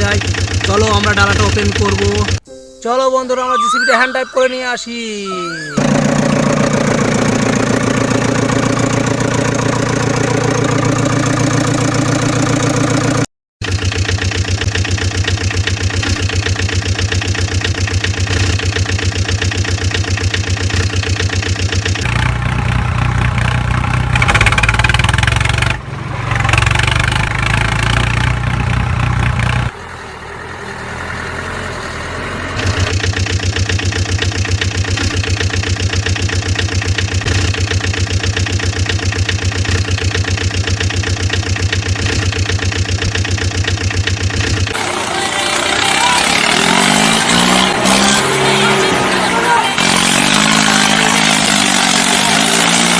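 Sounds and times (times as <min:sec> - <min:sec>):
engine idling: 0:00.0 - 0:02.4, 0:05.2 - 0:25.9, 0:26.5 - 0:52.9.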